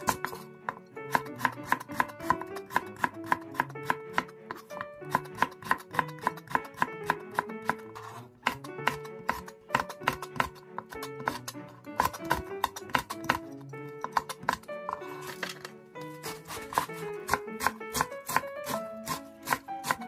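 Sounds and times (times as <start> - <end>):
knife chopping on cutting board: 0.0 - 20.0
light background music: 0.0 - 20.0.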